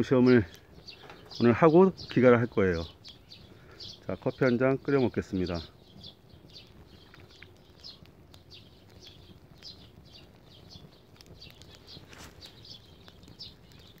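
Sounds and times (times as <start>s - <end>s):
birds chirping: 0.0s - 14.0s
wood fire crackling: 0.0s - 14.0s.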